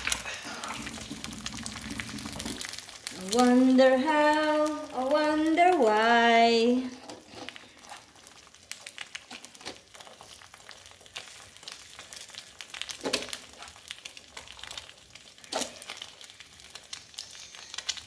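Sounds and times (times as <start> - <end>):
crackling pops: 0.0 - 5.9, 6.8 - 18.0
egg sizzling in a frying pan: 0.0 - 18.0.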